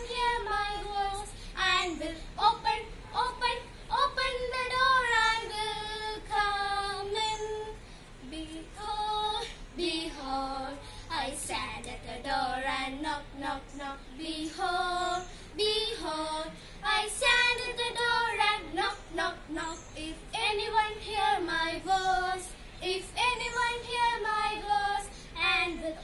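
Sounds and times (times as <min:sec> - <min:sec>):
girls singing: 0:00.0 - 0:26.0.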